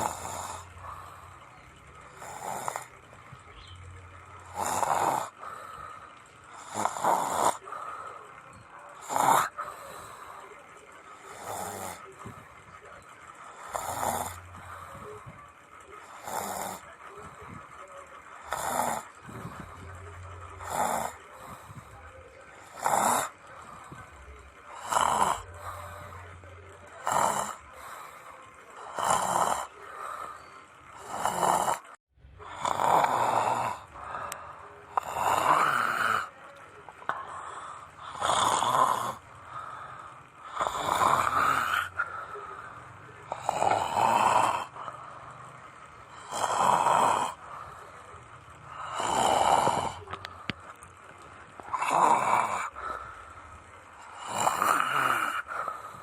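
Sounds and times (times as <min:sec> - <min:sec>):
person snoring loudly: 0:00.0 - 0:03.1, 0:04.4 - 0:08.2, 0:09.0 - 0:10.4, 0:11.2 - 0:12.4, 0:13.5 - 0:15.3, 0:16.0 - 0:16.9, 0:18.4 - 0:36.4, 0:37.0 - 0:50.6, 0:51.6 - 0:53.3, 0:54.0 - 0:56.0.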